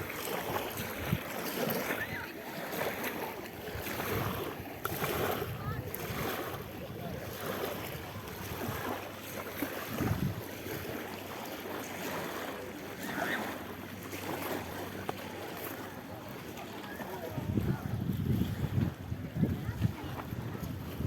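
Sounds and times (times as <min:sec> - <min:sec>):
sea waves: 0:00.0 - 0:21.0
wind: 0:00.0 - 0:21.0.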